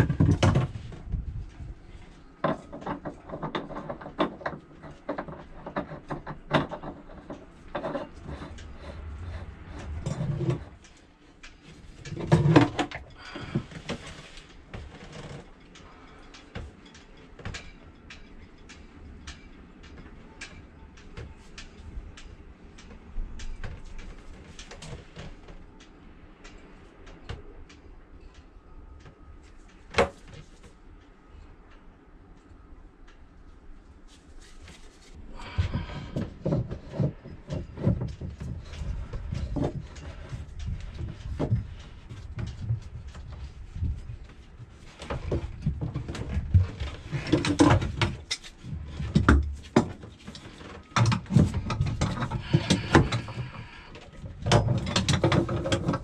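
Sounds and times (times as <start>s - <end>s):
clicks and knocks of hand work: 0.0s - 56.0s.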